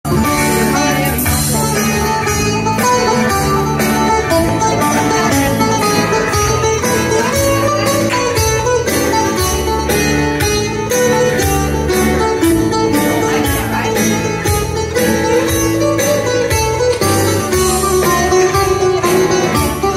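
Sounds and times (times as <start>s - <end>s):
plucked string music with beat: 0.1s - 19.9s.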